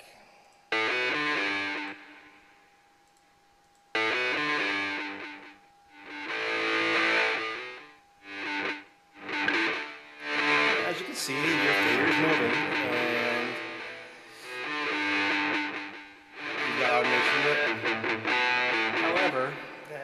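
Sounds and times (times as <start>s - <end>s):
distorted electric guitar chords: 0.7s - 2.7s, 3.9s - 20.0s.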